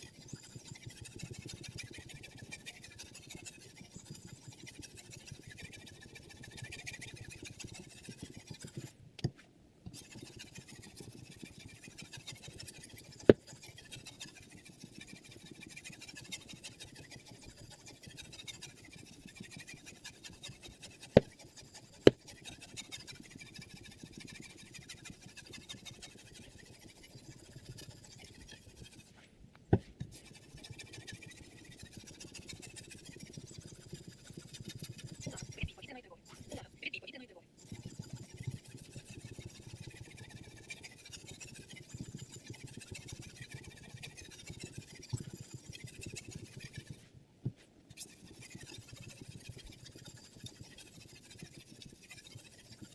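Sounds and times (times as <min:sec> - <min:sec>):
stone scraping knife blade: 0:00.0 - 0:08.9, 0:09.9 - 0:29.1, 0:29.8 - 0:36.7, 0:37.6 - 0:47.0, 0:47.9 - 0:52.9.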